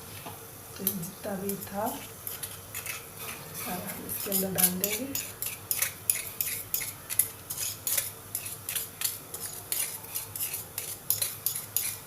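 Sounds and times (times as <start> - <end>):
metal spoon scraping a mortar: 1.5 - 12.0.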